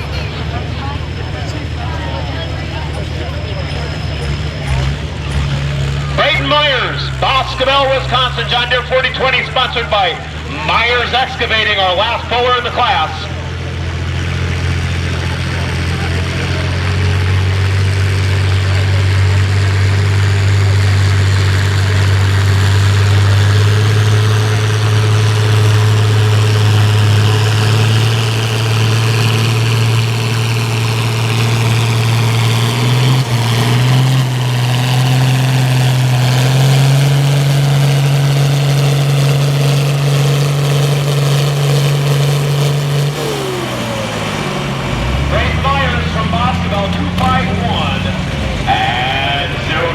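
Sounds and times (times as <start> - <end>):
tractor engine under heavy load: 0.0 - 49.9.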